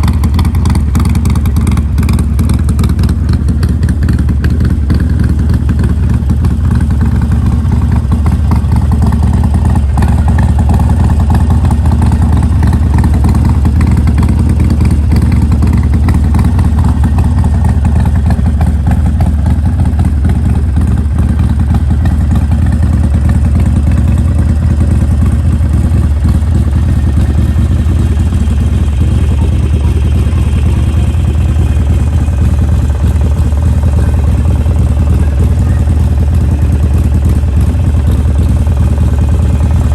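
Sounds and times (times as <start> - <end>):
motorcycle engine deep exhaust: 0.0 - 39.9.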